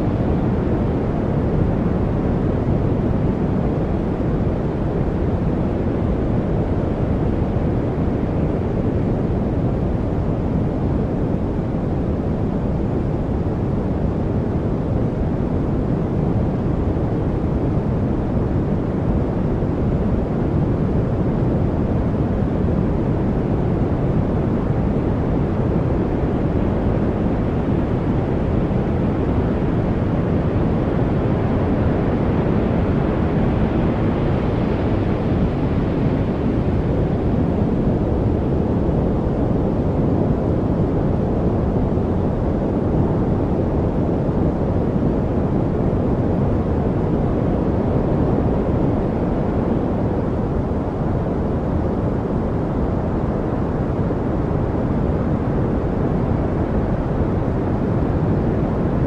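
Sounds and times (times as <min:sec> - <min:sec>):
deep white noise: 0:00.0 - 0:59.0.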